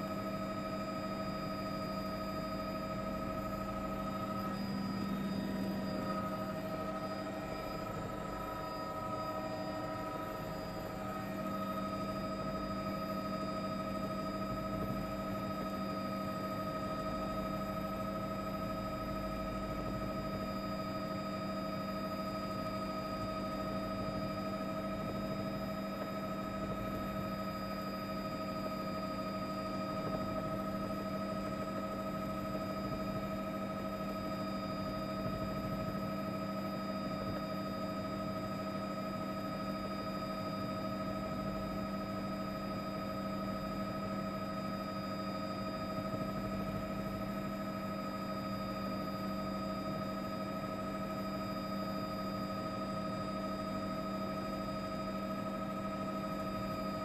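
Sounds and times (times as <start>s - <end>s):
constant whining tones: 0.0s - 53.6s
helicopter engine and rotor drone: 0.0s - 57.0s.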